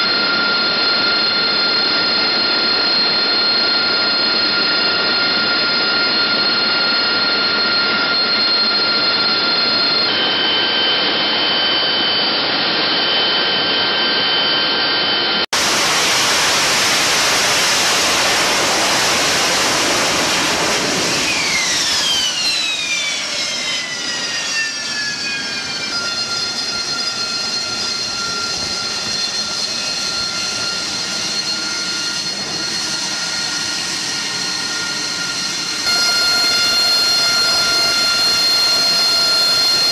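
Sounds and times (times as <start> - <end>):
jet engine whine and rush: 0.0 - 39.9
jet taking off: 0.0 - 39.9.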